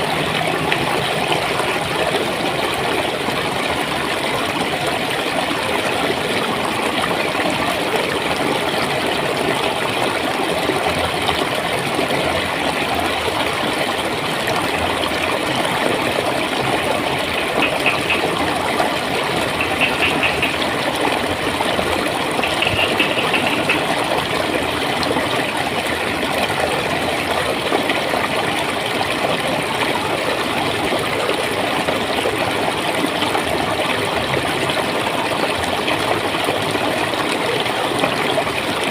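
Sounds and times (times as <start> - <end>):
running water gurgling: 0.0 - 38.9.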